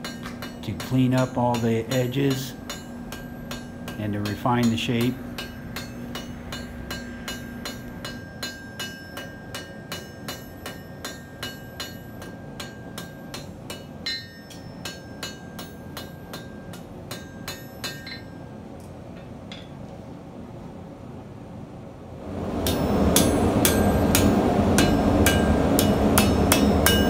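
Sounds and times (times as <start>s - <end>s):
hammer striking steel on anvil: 0.0s - 18.6s, 22.6s - 27.0s.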